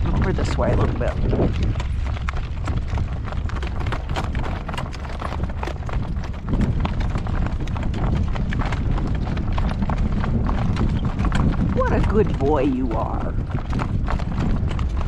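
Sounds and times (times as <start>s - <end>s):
horse hooves clip-clopping: 0.0s - 15.0s
low rumble: 0.0s - 15.0s.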